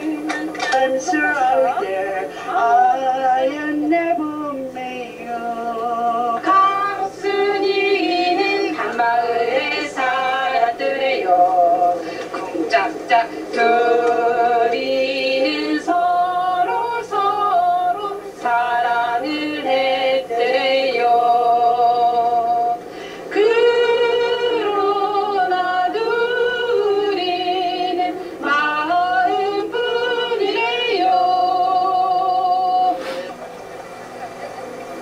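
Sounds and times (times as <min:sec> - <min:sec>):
choir singing: 0:00.0 - 0:33.4.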